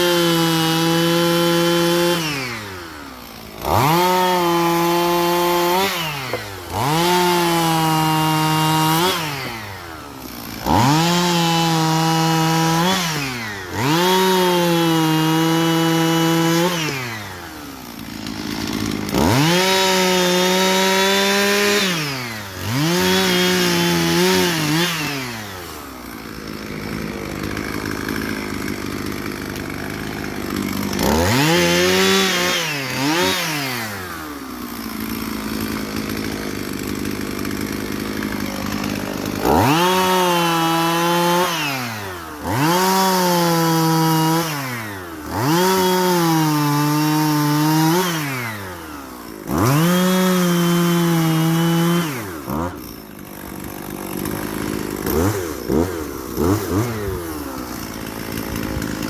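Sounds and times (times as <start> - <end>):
chainsaw idling: 0.0 - 59.0
chainsaw revving and cutting wood: 0.0 - 59.0.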